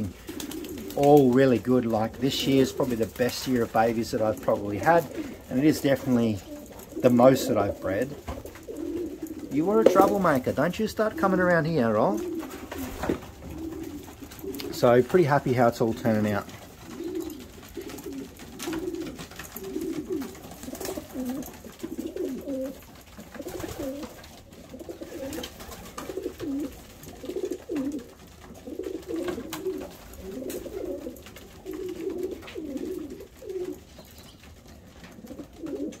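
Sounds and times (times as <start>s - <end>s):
pigeons cooing: 0.0s - 36.0s.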